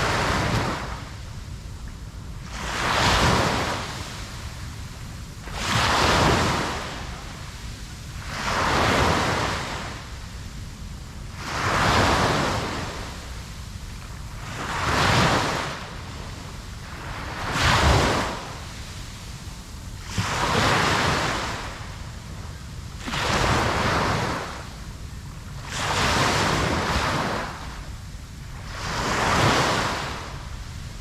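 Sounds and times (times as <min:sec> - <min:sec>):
ocean waves breaking on beach: 0:00.0 - 0:31.0.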